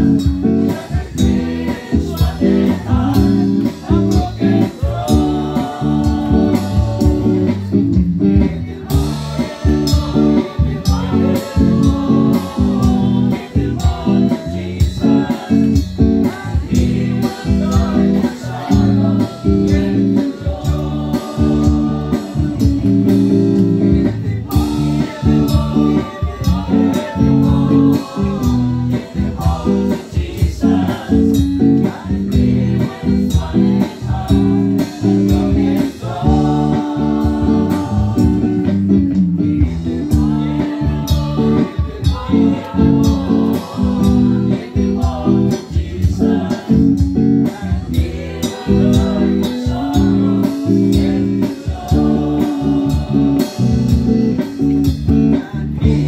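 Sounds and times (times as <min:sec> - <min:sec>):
group singing gospel song: 0:00.0 - 0:56.0
instrumental backing: 0:00.0 - 0:56.0.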